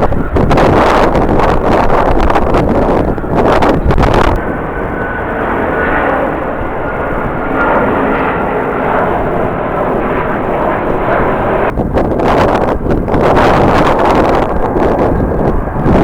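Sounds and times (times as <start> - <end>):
jet airliner engines running: 0.0 - 16.0.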